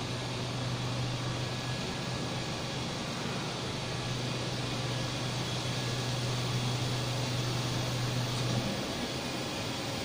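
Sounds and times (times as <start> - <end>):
factory hall hiss: 0.0 - 10.0.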